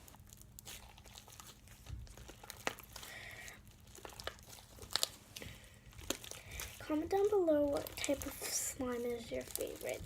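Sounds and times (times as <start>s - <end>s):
slime squeezed and stretched: 0.0s - 10.0s.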